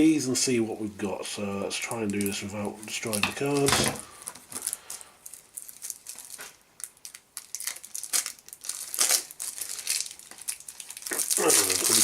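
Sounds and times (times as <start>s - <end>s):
plastic wrapping crinkling and tearing: 1.8s - 12.0s.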